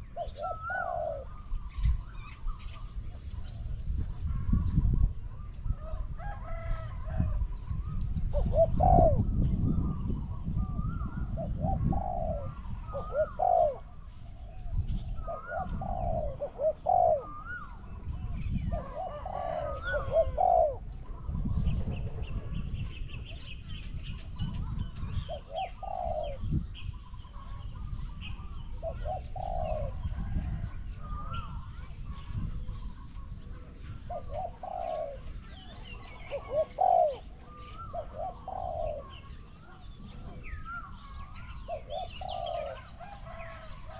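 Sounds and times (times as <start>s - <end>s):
dove cooing: 0.0s - 43.9s.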